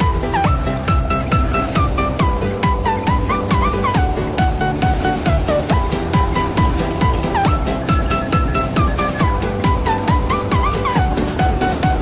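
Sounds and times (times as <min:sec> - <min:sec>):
electronic dance music: 0:00.0 - 0:12.0
stepping synth melody: 0:00.0 - 0:12.0.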